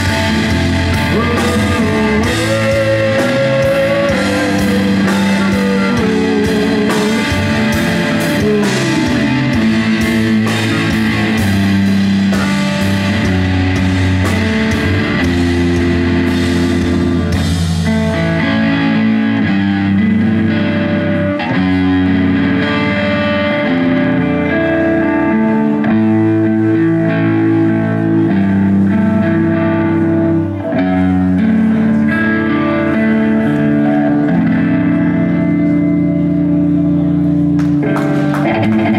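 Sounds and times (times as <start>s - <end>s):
drum kit: 0.0s - 29.6s, 36.4s - 38.9s
electric bass: 0.0s - 38.9s
electric guitar: 0.0s - 38.9s.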